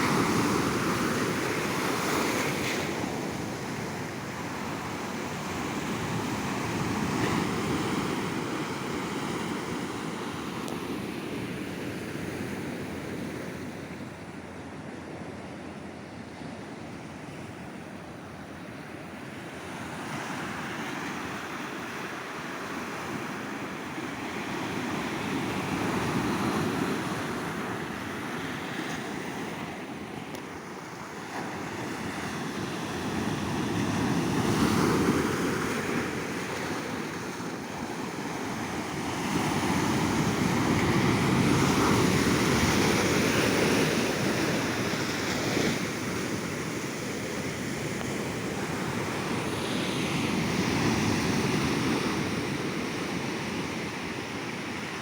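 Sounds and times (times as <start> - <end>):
ocean waves breaking on a beach: 0.0 - 55.0.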